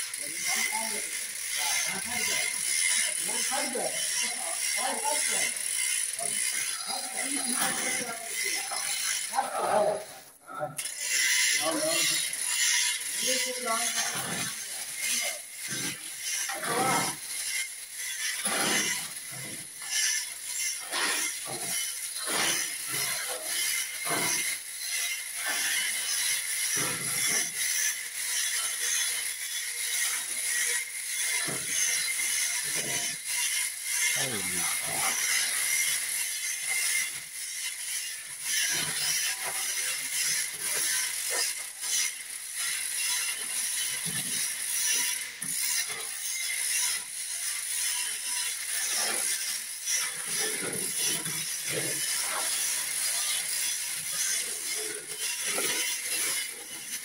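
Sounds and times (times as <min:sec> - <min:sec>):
chain hoist ratcheting clicks: 0:00.0 - 0:57.0
high-pitched background hum: 0:00.0 - 0:57.0.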